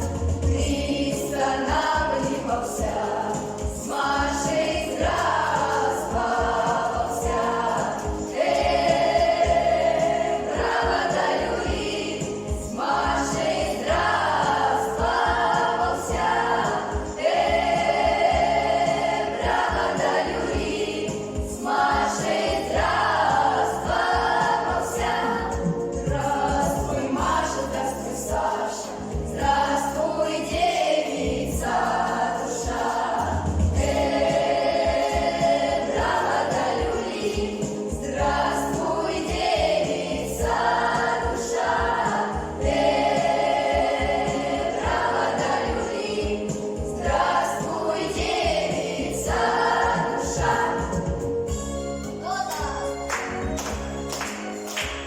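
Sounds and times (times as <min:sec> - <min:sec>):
children's choir singing folk song: 0:00.0 - 0:51.6.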